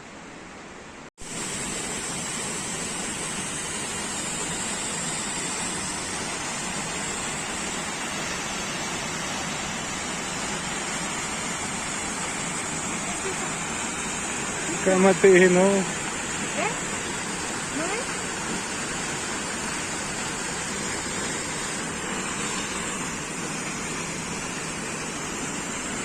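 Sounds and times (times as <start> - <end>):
water rushing: 1.2 - 26.0.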